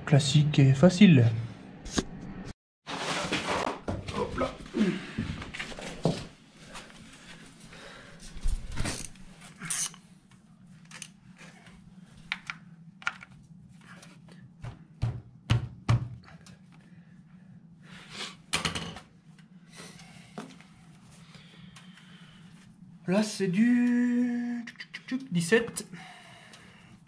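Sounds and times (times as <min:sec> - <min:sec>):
steady low hum: 0:04.2 - 0:27.0.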